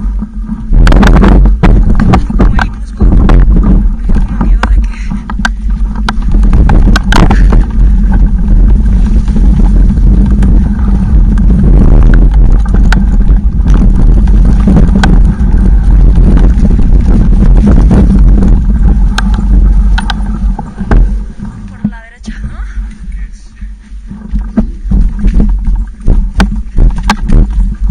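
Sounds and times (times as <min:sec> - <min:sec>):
sharp knocks and rattles: 0:00.0 - 0:22.1, 0:24.0 - 0:27.9
low rumble: 0:00.0 - 0:27.9.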